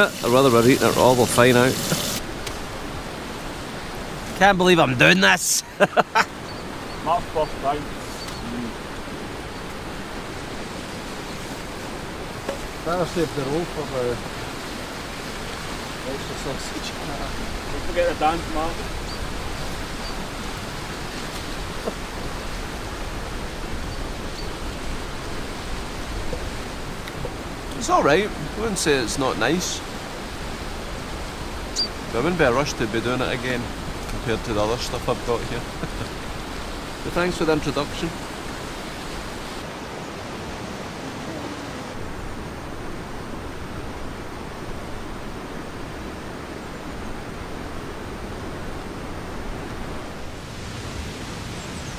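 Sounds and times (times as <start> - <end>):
river rushing over rocks: 0.0 - 51.9.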